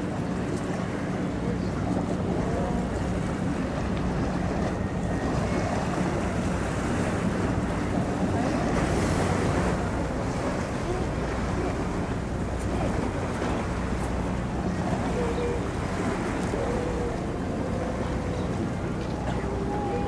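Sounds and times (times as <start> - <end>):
ship engines humming: 0.0 - 20.0
wind buffeting microphone: 0.0 - 20.0.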